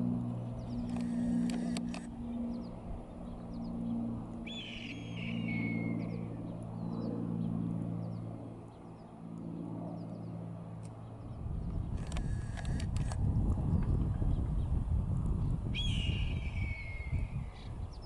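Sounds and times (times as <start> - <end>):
steady low hum: 0.0 - 18.0
small birds chirping: 0.6 - 12.8, 15.4 - 18.0.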